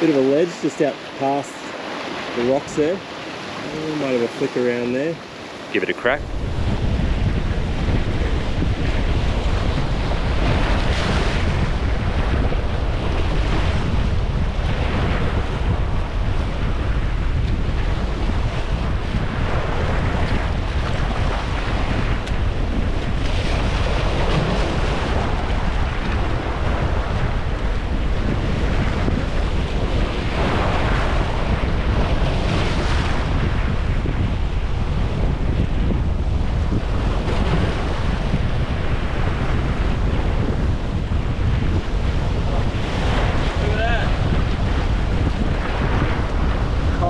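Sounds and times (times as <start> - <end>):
surf washing over rocks: 0.0 - 47.0
wind buffeting microphone: 0.0 - 47.0.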